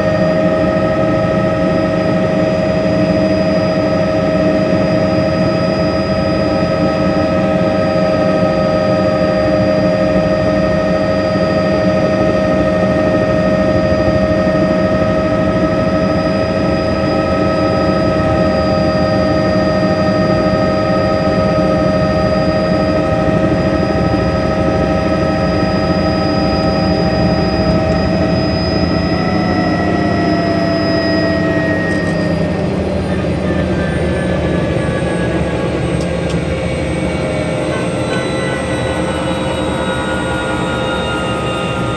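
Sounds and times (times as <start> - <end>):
helicopter rotor rumble: 0.0 - 41.9
helicopter turbine whine: 0.0 - 41.9.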